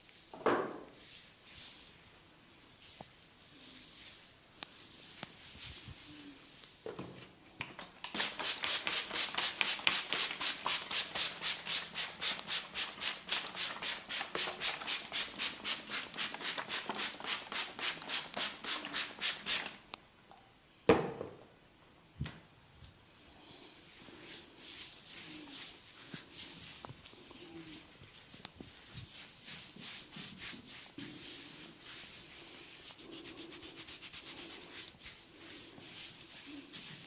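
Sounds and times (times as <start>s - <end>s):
hands rubbing over head: 1.0s - 2.1s, 2.7s - 6.8s, 8.0s - 19.8s, 23.5s - 37.0s.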